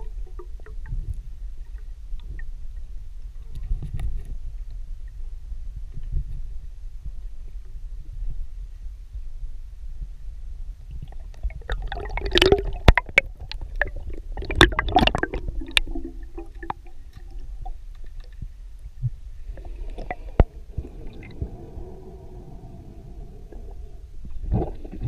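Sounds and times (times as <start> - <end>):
faint hum: 0.0 - 25.0
low underwater rumble: 0.0 - 25.0.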